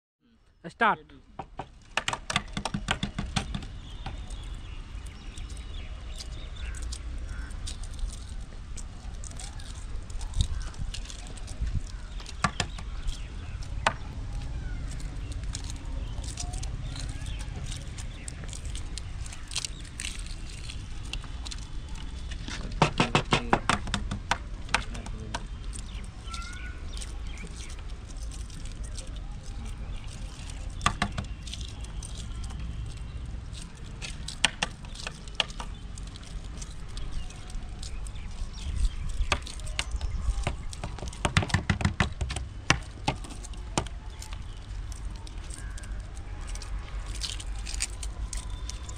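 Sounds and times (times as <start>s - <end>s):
birds chirping: 0.2s - 48.9s
eggshell clicking and crackling: 1.4s - 48.9s.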